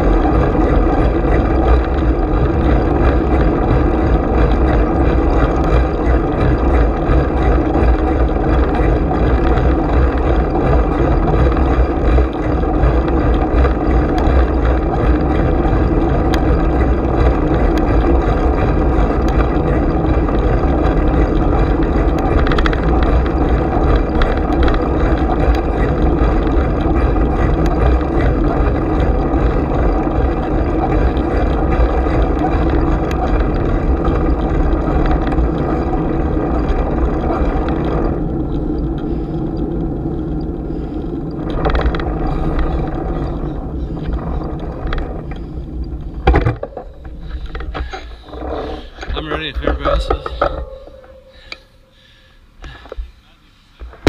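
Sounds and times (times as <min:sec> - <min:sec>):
wind rumble on microphone: 0:00.0 - 0:51.0
bicycle running noise: 0:00.0 - 0:54.0.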